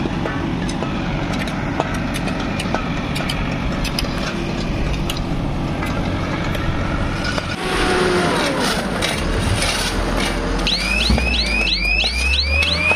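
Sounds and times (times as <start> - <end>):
diesel engine rumbling: 0.0 - 12.9.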